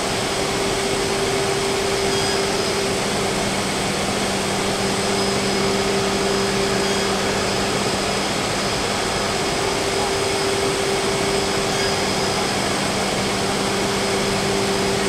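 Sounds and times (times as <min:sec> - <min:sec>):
router spindle hum: 0:00.0 - 0:15.0.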